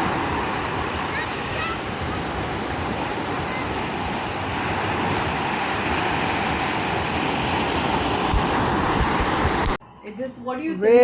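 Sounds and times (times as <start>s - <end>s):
ocean surf on beach: 0.0s - 9.8s.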